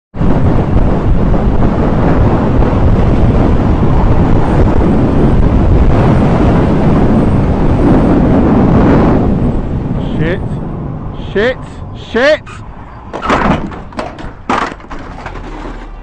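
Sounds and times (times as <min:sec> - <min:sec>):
wind rush: 0:00.1 - 0:15.3
motorcycle road noise: 0:00.1 - 0:16.0
wind buffeting microphone: 0:00.1 - 0:16.0.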